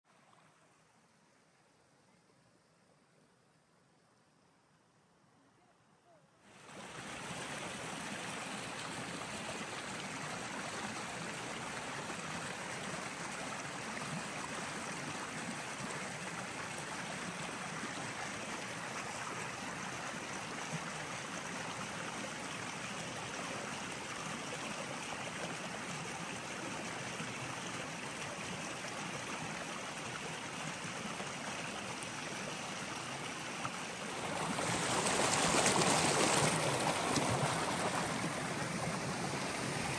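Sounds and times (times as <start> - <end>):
water rushing: 6.5 - 39.9.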